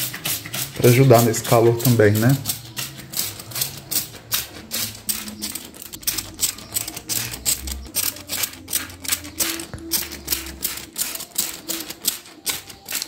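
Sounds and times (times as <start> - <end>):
spray bottle squirting hiss: 0.0 - 13.0.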